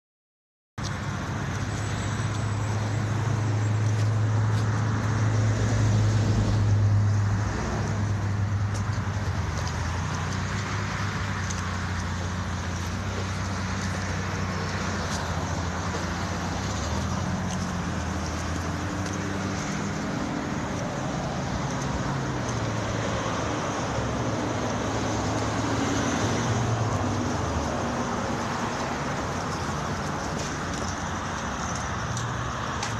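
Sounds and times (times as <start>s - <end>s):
outdoor noise: 0.8s - 32.9s.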